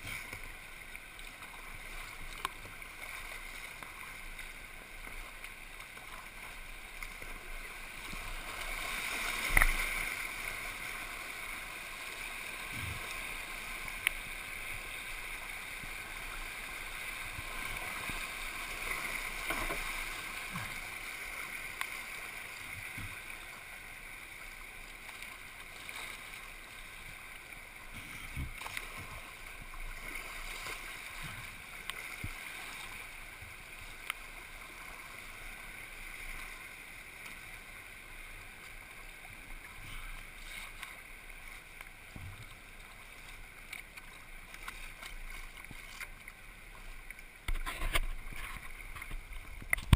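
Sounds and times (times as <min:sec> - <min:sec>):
rushing floodwater: 0:00.0 - 0:49.9.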